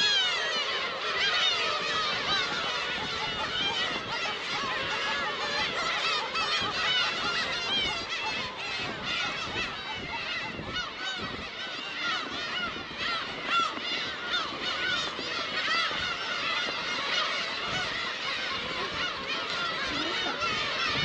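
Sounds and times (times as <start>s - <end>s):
gulls calling: 0.0s - 21.0s.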